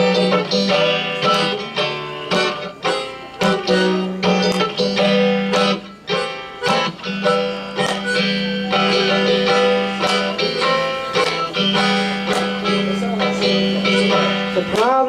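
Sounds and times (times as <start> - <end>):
plucked string instruments: 0.0 - 15.0.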